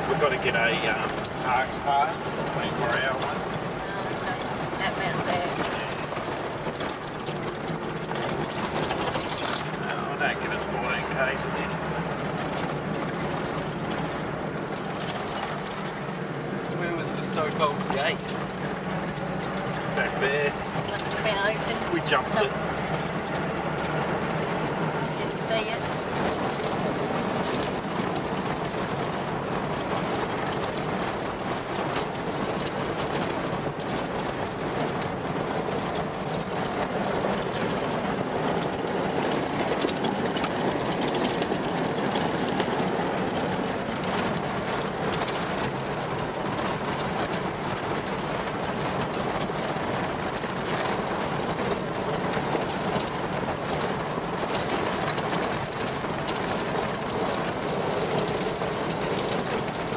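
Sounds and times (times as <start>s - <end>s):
vehicle rattling: 0.0s - 59.9s
vehicle road noise: 0.0s - 59.9s.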